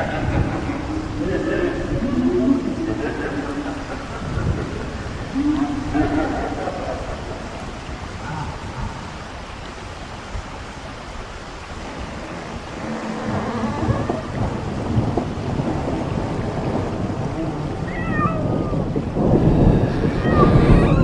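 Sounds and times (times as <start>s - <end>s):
rolling thunder: 0.0s - 9.5s, 11.1s - 21.0s
steady rain: 0.0s - 21.0s.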